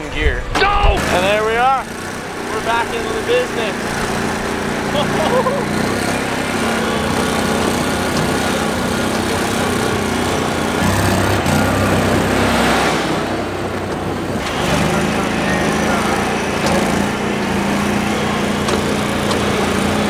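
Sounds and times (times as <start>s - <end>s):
small vehicle engine running: 0.0s - 20.0s.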